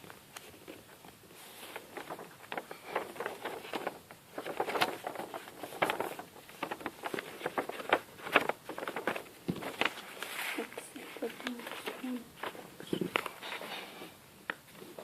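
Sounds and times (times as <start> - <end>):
paper crinkling as it is folded: 0.0 - 13.8.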